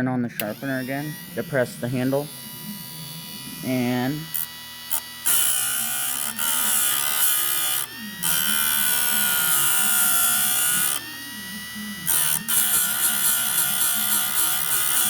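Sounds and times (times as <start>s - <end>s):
grinding wheel on metal: 0.0s - 15.0s
motor whine: 0.0s - 15.0s.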